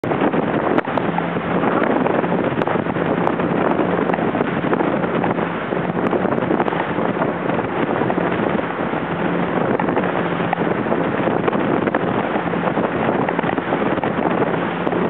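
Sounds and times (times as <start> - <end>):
rushing water: 0.0 - 15.0
watercraft engine running: 0.0 - 15.0
wind buffeting microphone: 0.0 - 15.0.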